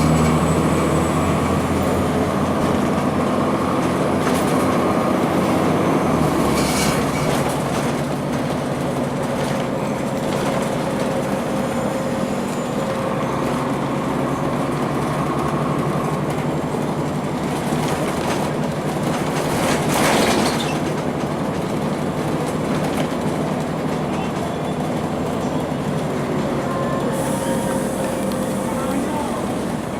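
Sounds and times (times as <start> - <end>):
bus diesel engine running: 0.0 - 29.9
road noise: 0.0 - 29.9.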